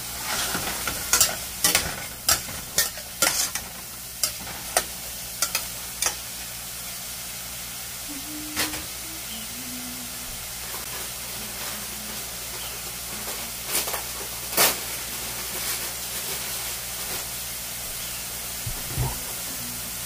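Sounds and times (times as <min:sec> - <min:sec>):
mushrooms sizzling in a pan: 0:00.0 - 0:20.0.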